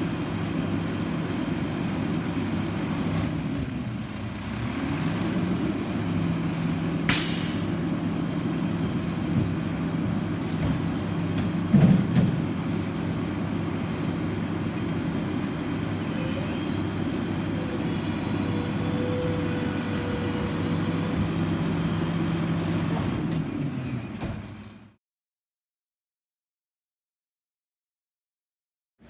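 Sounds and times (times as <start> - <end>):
garbage truck engine running: 0.0 - 25.0.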